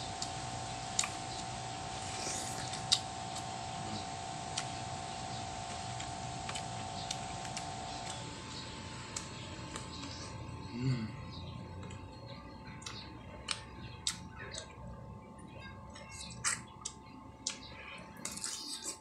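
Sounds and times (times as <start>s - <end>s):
crunchy chewing of mango: 0.0s - 11.1s, 11.7s - 14.8s, 15.9s - 19.0s.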